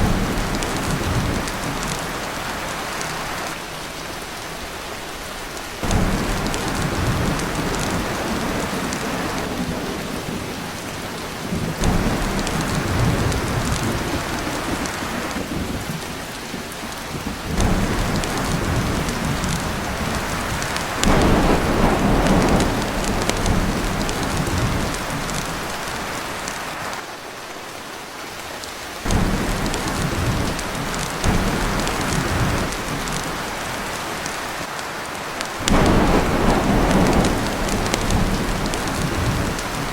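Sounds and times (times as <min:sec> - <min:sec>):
thunder rolling: 0:00.0 - 0:02.3, 0:05.8 - 0:26.1, 0:29.1 - 0:34.5, 0:35.6 - 0:39.9
heavy rain on a tin roof: 0:00.0 - 0:39.9.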